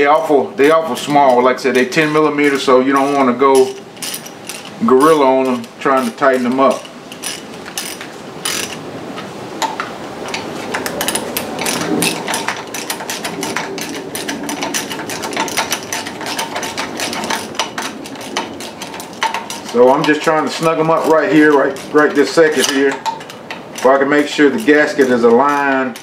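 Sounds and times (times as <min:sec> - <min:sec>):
hand ratchet clicking: 0:00.0 - 0:08.8, 0:09.6 - 0:26.0.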